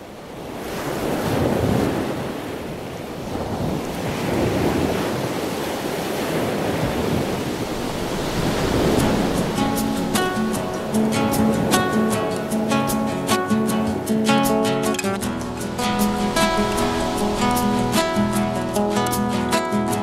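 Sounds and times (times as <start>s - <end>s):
sea waves: 0.0s - 20.0s
wind: 0.0s - 20.0s.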